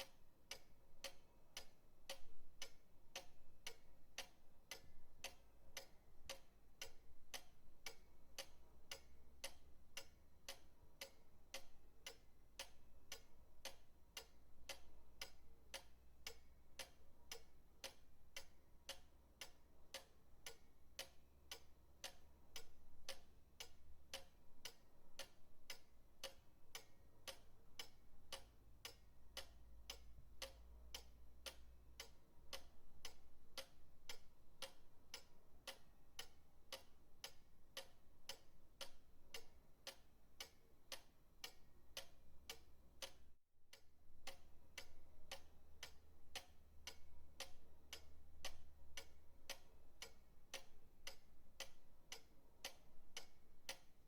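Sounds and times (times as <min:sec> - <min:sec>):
pendulum clock ticking: 0:00.0 - 0:54.0.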